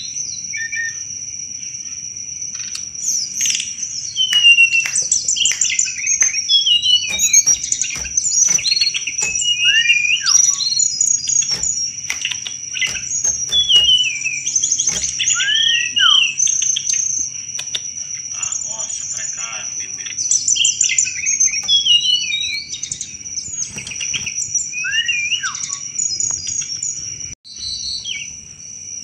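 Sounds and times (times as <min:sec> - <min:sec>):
songbird singing: 0:01.8 - 0:28.7.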